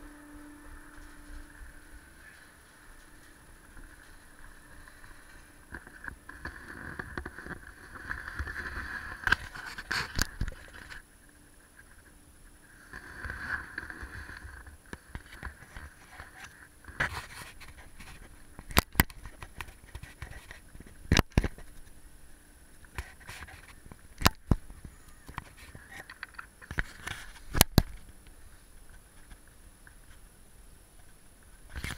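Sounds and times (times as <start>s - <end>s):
faint steady whir: 0.0s - 31.9s.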